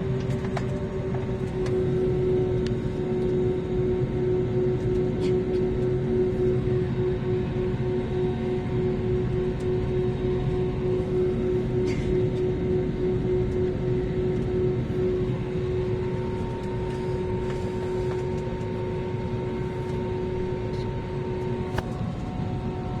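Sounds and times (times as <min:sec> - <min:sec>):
engine and air-system rumble: 0:00.0 - 0:23.0
steady whine: 0:00.0 - 0:23.0.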